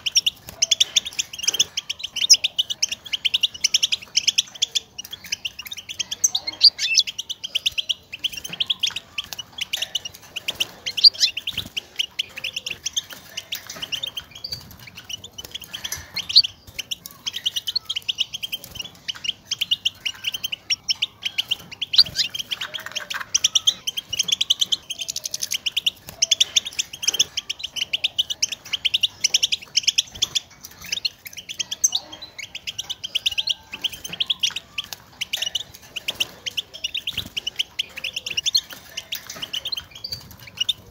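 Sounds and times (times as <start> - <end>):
bird twittering: 0.0 - 40.9.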